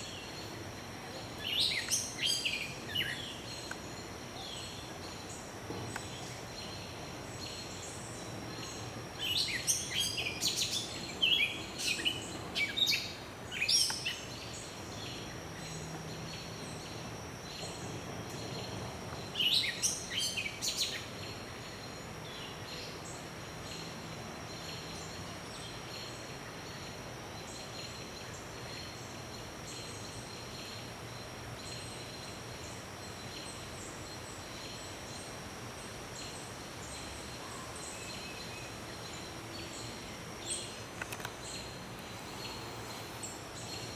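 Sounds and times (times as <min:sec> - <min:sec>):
faint high-pitched hum: 0:00.0 - 0:43.9.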